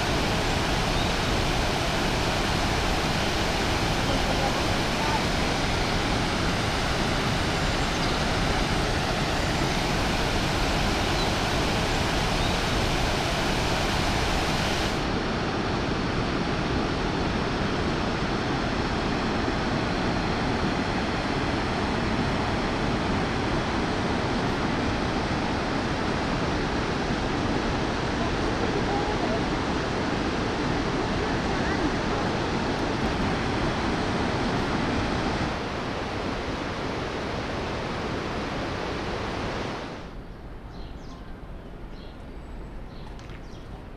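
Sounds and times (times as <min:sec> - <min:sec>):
waterfall roaring: 0:00.0 - 0:40.2.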